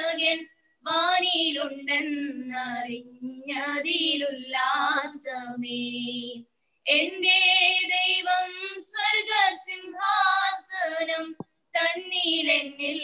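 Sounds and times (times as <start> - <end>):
woman singing a slow hymn: 0.0 - 13.0.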